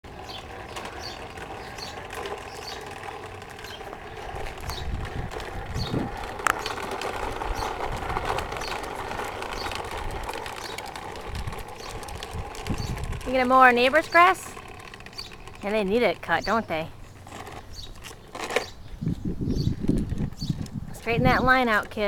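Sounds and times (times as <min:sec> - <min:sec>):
toy lawnmower clicking and rattling: 0:00.1 - 0:22.0.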